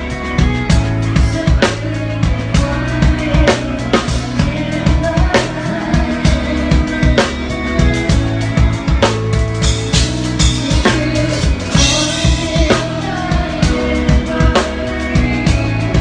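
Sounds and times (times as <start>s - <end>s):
bass line: 0.0s - 16.0s.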